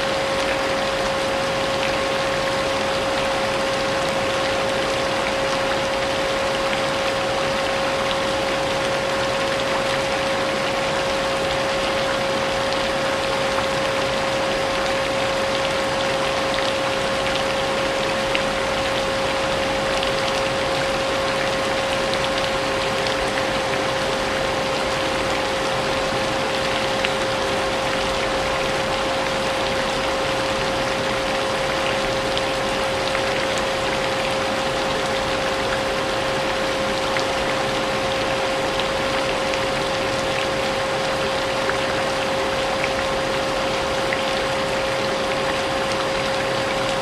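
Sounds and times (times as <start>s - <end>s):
steady rain: 0.0s - 47.0s.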